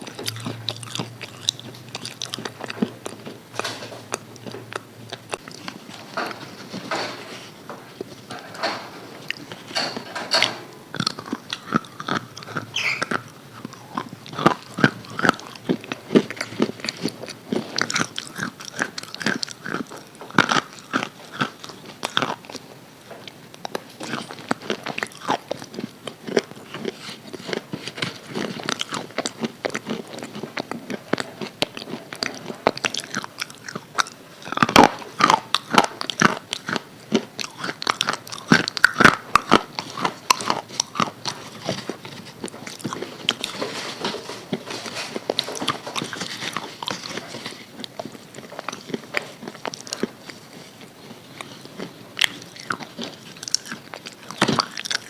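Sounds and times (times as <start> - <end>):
chewing crispy fried chicken: 0.0 - 55.0.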